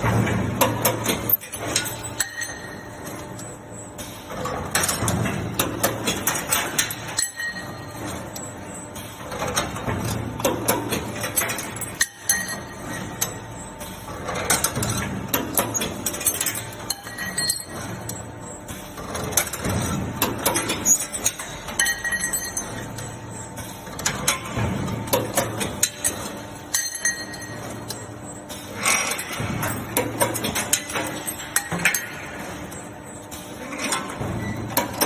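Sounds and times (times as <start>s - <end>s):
machine metallic clinks and clicks: 0.0s - 35.0s.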